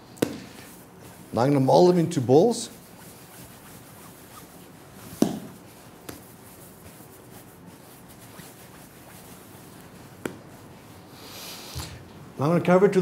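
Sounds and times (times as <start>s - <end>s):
hands squishing bread dough: 0.2s - 10.8s.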